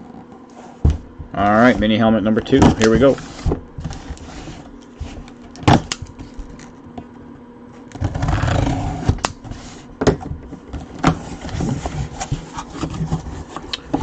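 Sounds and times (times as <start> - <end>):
cardboard scraping and rustling: 0.0 - 6.6, 7.9 - 14.0.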